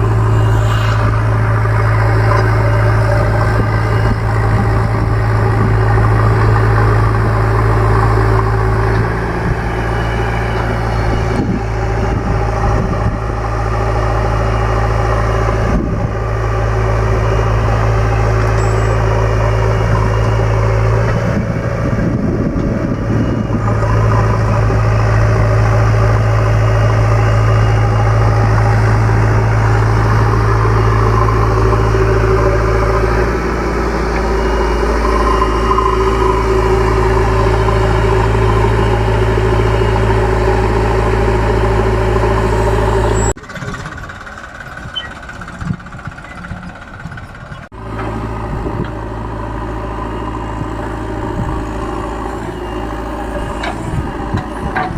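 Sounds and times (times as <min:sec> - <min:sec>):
large diesel engine running: 0:00.0 - 0:54.9.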